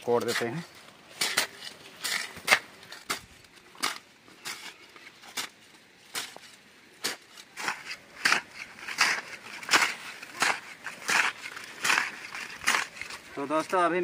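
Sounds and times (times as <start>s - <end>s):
hand hoes chopping into soil: 1.2s - 14.0s.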